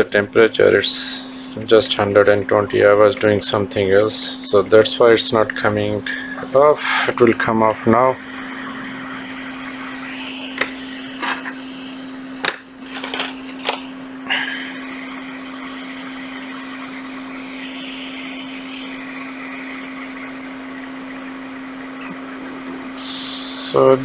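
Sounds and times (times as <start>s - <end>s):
hot air station blowing: 0.0s - 24.0s.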